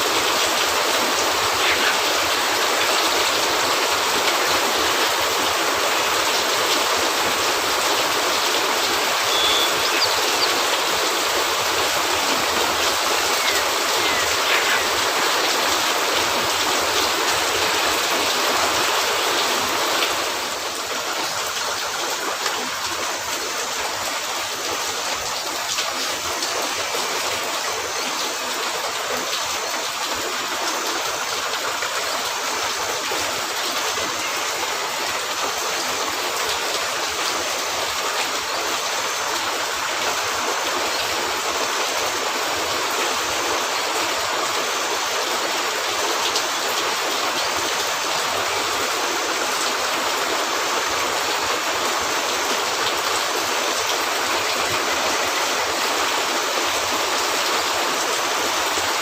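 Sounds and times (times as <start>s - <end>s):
rain falling on a roof: 0.0s - 59.0s.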